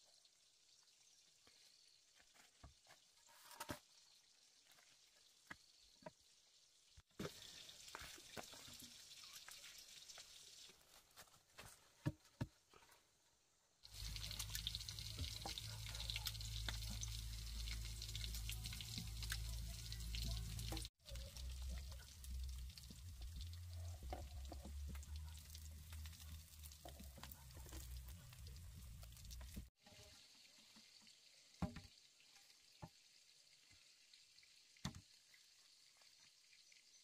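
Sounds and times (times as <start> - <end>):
food frying in hot oil: 0.0 - 11.2, 13.8 - 37.0.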